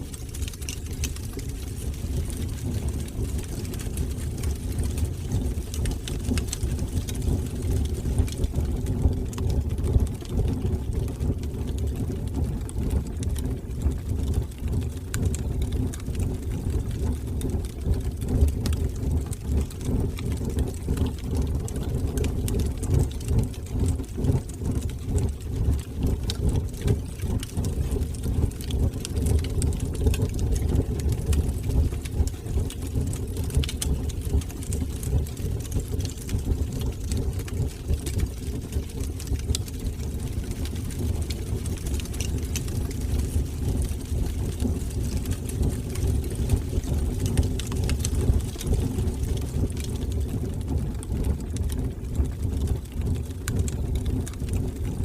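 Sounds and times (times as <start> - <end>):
wood fire crackling and popping: 0.0 - 55.0
fire flames roaring: 0.1 - 55.0.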